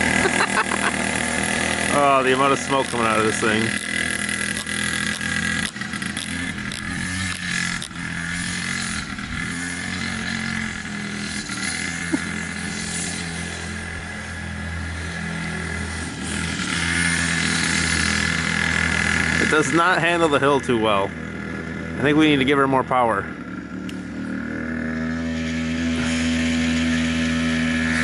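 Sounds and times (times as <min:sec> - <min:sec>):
small two-stroke engine running: 0:00.0 - 0:28.0.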